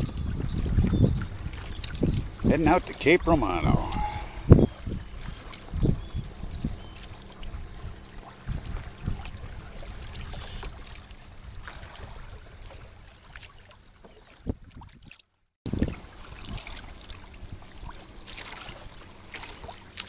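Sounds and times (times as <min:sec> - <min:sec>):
water rushing along kayak hull: 0:00.0 - 0:14.8, 0:15.7 - 0:20.0.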